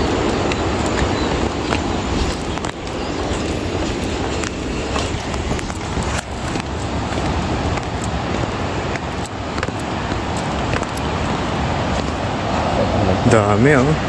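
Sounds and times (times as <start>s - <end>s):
footsteps on stone path: 0.0s - 14.0s
wind rushing over microphone: 0.0s - 14.0s.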